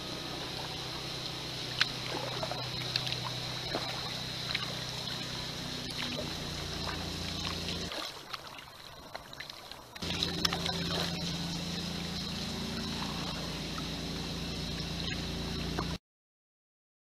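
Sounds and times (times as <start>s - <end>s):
steady low hum: 0.0s - 8.2s, 9.9s - 16.0s
paddle splashes and drips: 0.4s - 16.0s.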